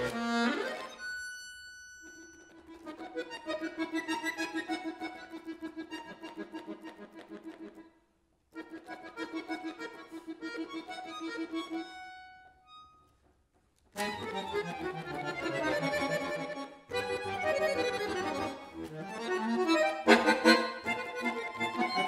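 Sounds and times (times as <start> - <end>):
button accordion playing: 0.0 - 7.9, 8.6 - 13.1, 14.0 - 22.0.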